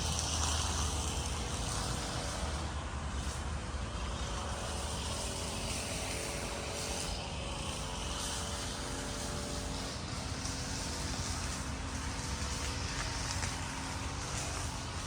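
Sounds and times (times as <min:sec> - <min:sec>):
distant engine rumble: 0:00.0 - 0:15.0.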